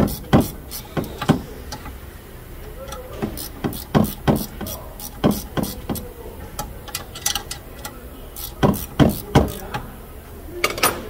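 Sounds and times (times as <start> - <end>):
wrench clicking on bolt: 0.0 - 2.0, 2.6 - 9.9.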